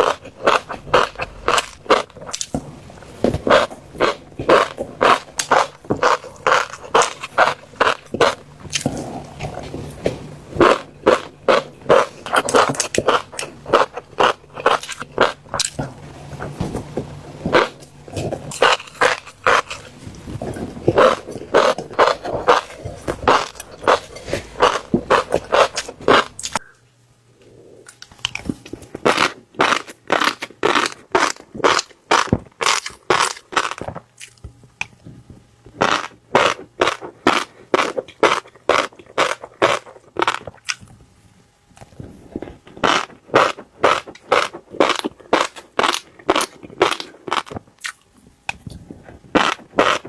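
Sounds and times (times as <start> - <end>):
fish roe crunching when chewed: 0.0 - 26.7, 27.4 - 41.1, 41.7 - 50.0.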